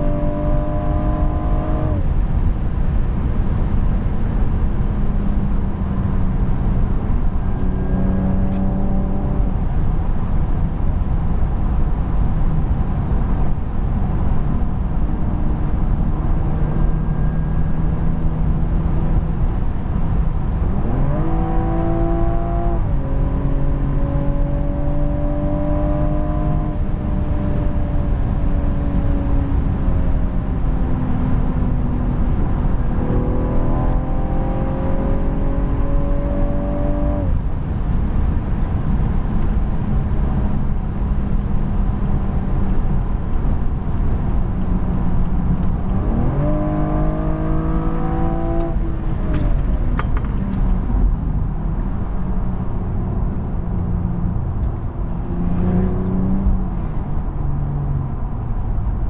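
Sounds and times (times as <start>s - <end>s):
car engine under load: 0.0s - 59.0s
road and tyre roar: 0.0s - 59.0s.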